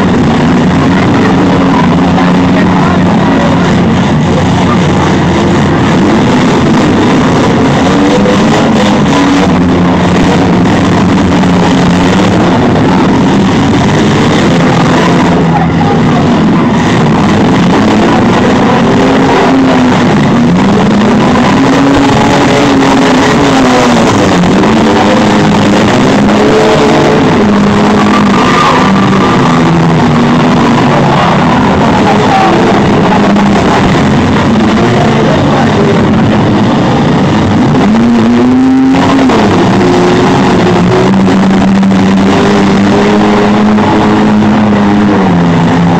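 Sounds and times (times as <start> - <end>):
car engines revving hard: 0.0 - 45.9.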